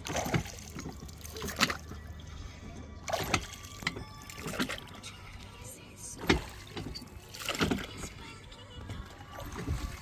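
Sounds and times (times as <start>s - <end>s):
oars splashing through water: 0.0s - 10.0s
water trickling from oars: 0.0s - 10.0s.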